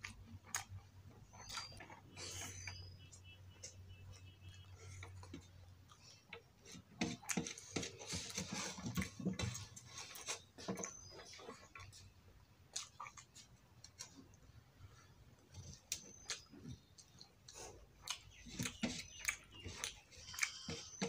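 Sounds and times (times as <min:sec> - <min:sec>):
eating by hand with chewing: 0:00.0 - 0:21.0.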